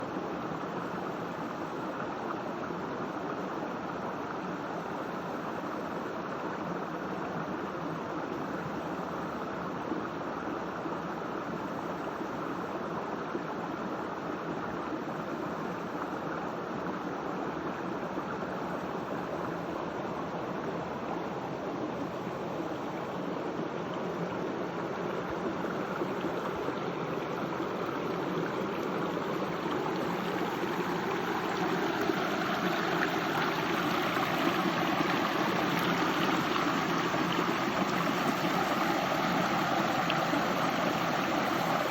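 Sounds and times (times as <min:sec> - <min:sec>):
stream flowing water: 0:00.0 - 0:41.9.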